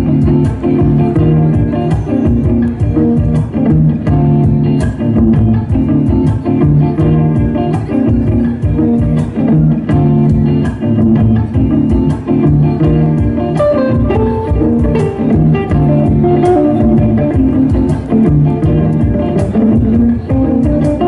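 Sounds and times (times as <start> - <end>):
live band instrumental guitar: 0.0 - 21.0.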